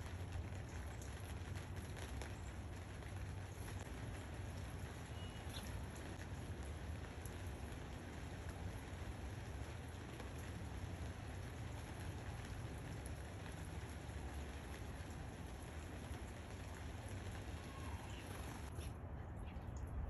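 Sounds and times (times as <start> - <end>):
raindrops ticking: 0.0 - 18.7
steady rain falling: 0.0 - 18.8.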